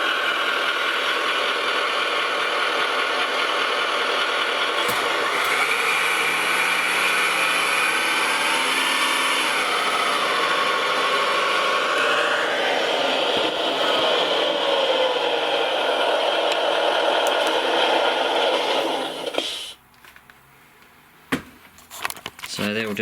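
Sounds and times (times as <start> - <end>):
simulated truck engine from speaker: 0.0 - 19.8.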